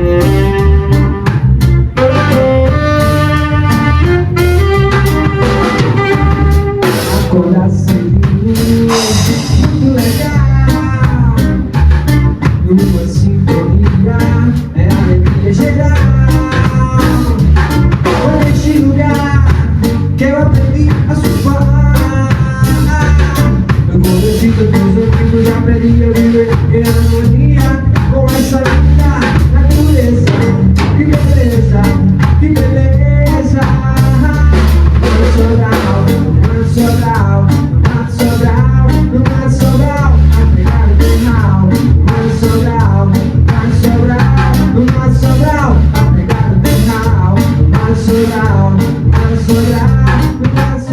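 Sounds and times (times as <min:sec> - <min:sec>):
band music: 0:00.0 - 0:50.9
drum kit beat: 0:00.0 - 0:50.9.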